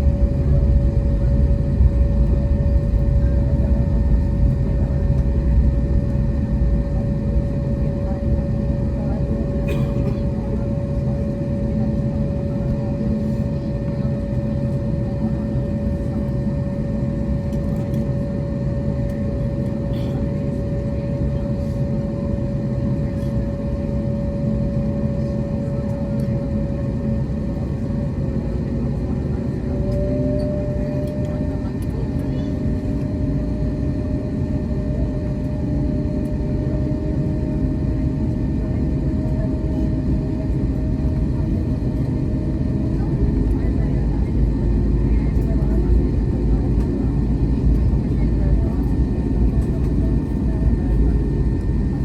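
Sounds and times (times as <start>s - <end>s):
jet engine cabin rumble: 0.0s - 52.0s.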